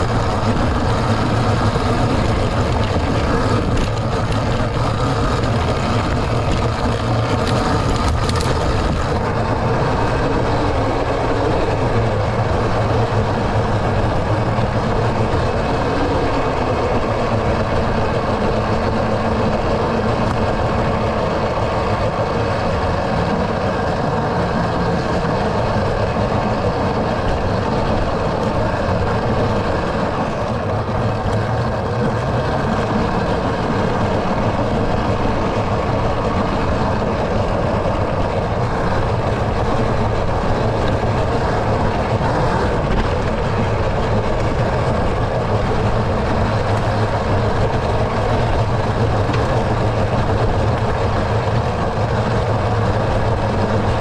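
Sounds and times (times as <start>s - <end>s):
tyre and drivetrain noise: 0.0s - 54.0s
wind rushing on camera: 0.0s - 54.0s.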